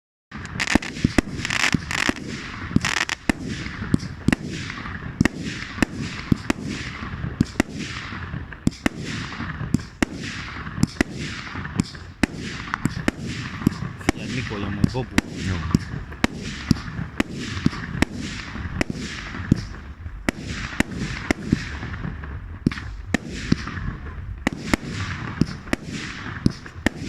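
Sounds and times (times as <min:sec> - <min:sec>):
fireworks bangs: 0:00.3 - 0:27.0
fireworks hissing: 0:00.4 - 0:27.0.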